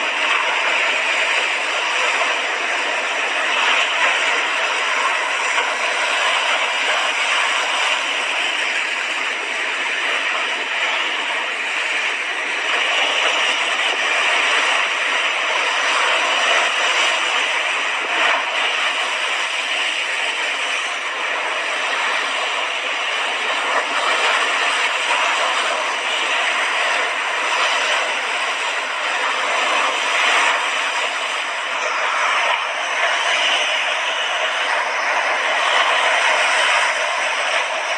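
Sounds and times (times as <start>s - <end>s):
sea waves washing onto shore: 0.0s - 37.9s.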